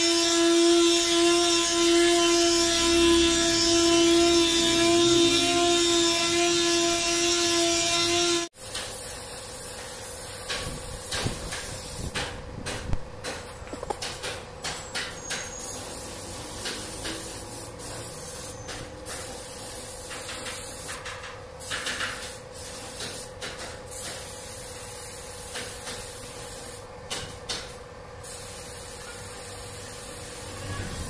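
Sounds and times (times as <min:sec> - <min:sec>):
spray gun hissing: 0:00.1 - 0:12.3, 0:15.4 - 0:26.9, 0:28.2 - 0:31.0.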